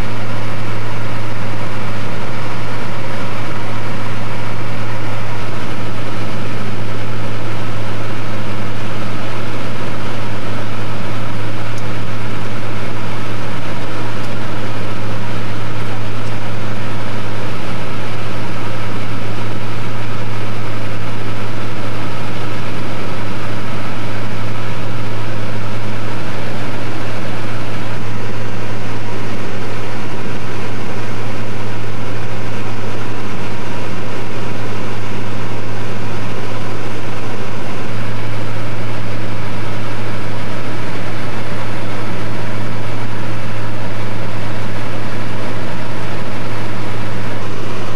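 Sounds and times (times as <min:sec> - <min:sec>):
aircraft piston engine hum: 0:00.0 - 0:47.9
rushing noise: 0:00.0 - 0:47.9.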